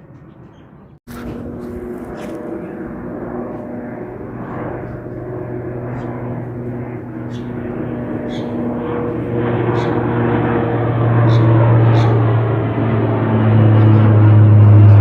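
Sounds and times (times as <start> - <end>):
jet airliner engines roaring: 1.0 - 15.0.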